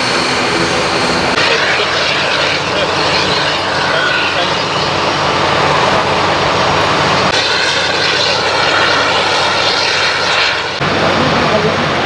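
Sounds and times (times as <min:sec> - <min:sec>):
airliner engines running: 0:00.0 - 0:12.0.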